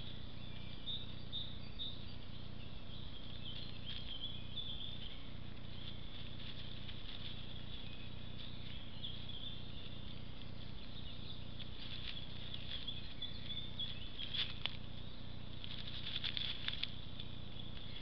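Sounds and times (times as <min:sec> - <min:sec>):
faint rustling crackle: 0:00.0 - 0:18.0
low electronic hum: 0:00.0 - 0:18.0.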